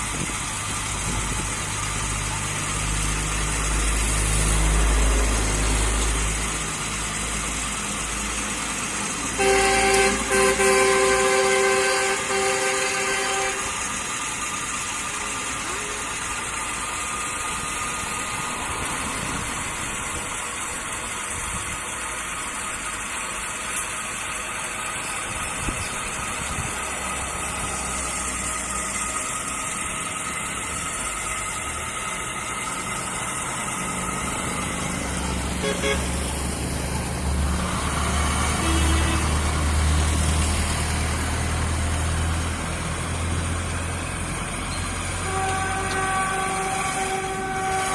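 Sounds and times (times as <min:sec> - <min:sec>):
motorised machinery running: 0:00.0 - 0:47.9.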